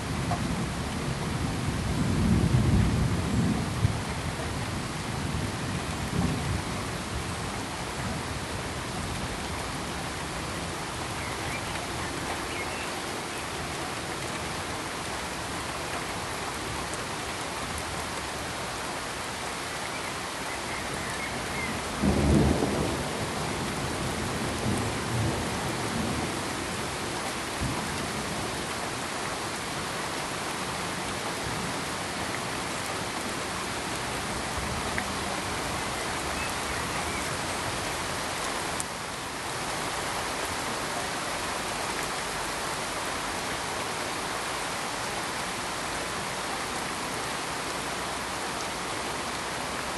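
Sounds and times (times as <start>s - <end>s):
pink noise hiss: 0.0s - 49.9s.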